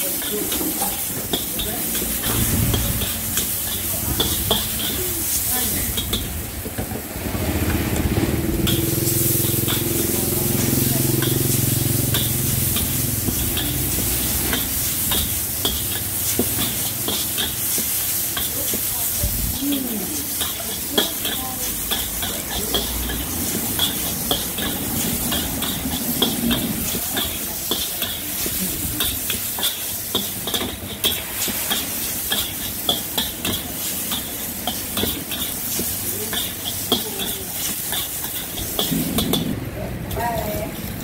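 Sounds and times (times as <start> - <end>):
metal spatula scraping a wok: 0.0 - 41.0
oil sizzling in a wok: 0.0 - 41.0.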